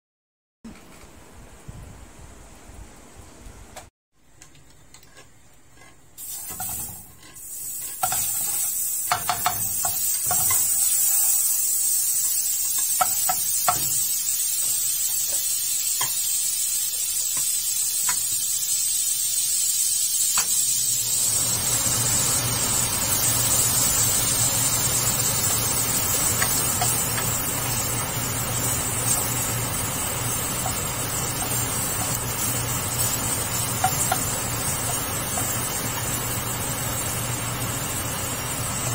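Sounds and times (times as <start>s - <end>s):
garlic frying: 4.2s - 38.9s
butter sizzling in a wok: 5.0s - 38.9s.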